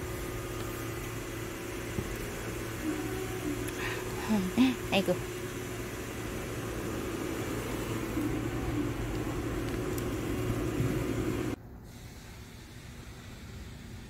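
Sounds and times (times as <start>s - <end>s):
low machine hum with hiss: 0.0s - 14.0s.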